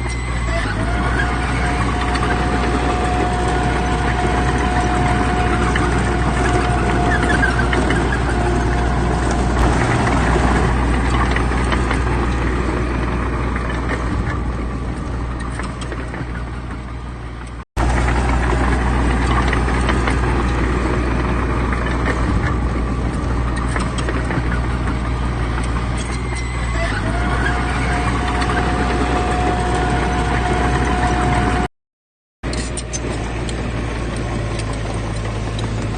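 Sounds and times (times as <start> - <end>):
heavy diesel engine running: 0.0 - 31.7, 32.4 - 35.9.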